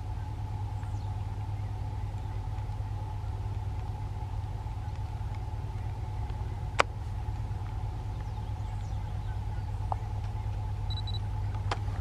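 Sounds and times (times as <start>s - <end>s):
locomotive engine rumble: 0.0s - 12.0s
steady hum: 0.0s - 12.0s.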